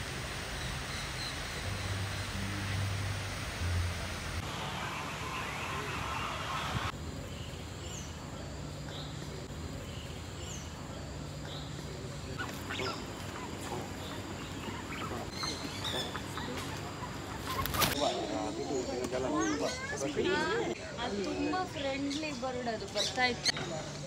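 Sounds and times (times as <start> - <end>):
outdoor ambience: 0.0 - 24.0
birds calling: 3.9 - 24.0.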